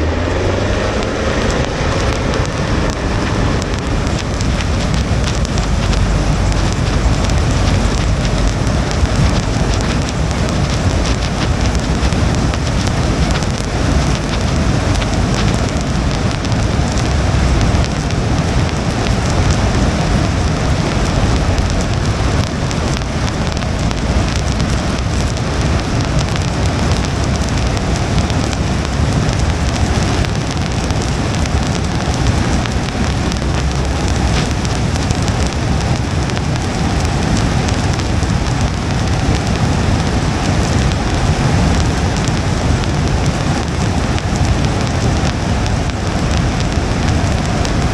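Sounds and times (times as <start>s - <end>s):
road and tyre rumble: 0.0s - 47.9s
rain pattering on windshield: 0.2s - 47.9s.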